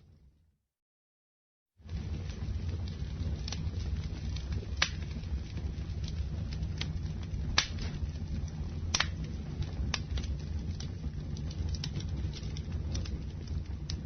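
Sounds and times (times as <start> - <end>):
low rumble of flames: 1.7 - 14.0
burning wood crackling and popping: 1.8 - 14.0.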